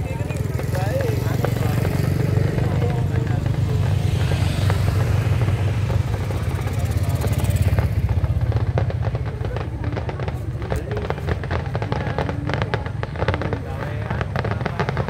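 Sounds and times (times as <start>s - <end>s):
sharp crackling pops: 0.0s - 15.0s.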